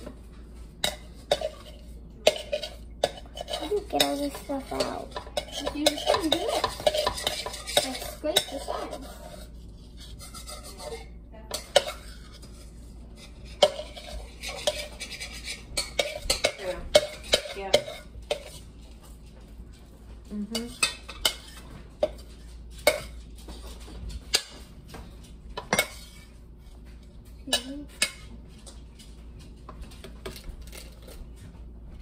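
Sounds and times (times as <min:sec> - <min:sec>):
spoon scraping and knocking a bowl: 0:00.8 - 0:19.4, 0:20.6 - 0:31.2.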